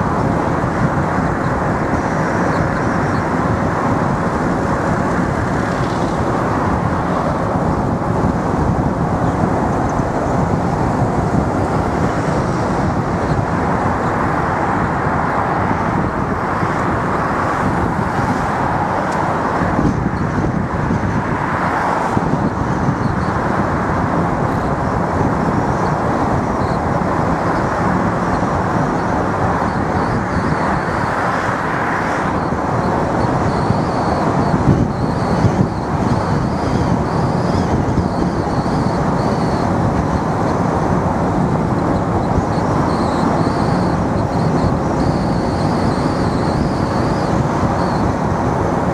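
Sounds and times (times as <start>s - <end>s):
car road noise: 0.0s - 48.9s.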